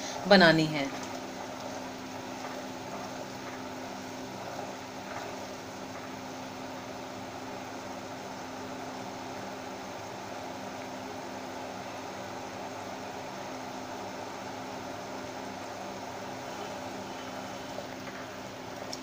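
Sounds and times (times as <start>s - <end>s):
syrup boiling: 0.0s - 19.0s.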